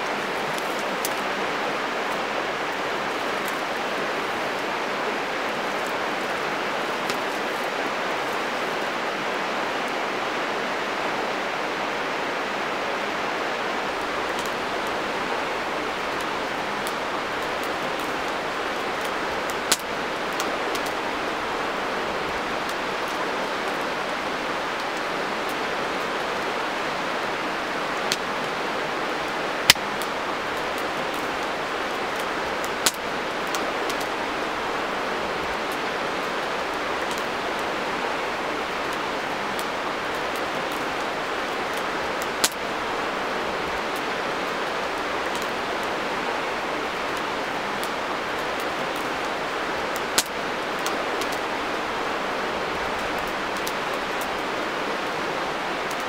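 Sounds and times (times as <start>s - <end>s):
campfire pops and crackles: 0.0s - 9.1s, 13.8s - 56.0s
steady rushing hiss: 0.0s - 56.0s.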